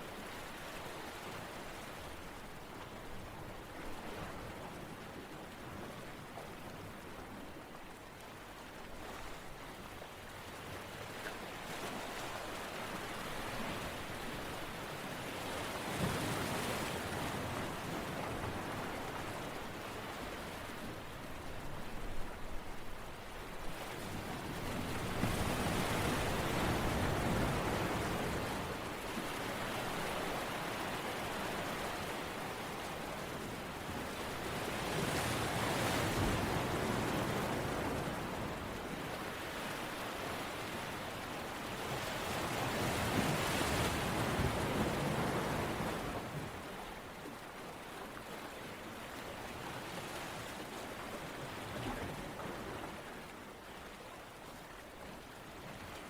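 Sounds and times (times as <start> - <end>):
waves washing ashore: 8.8 - 56.0.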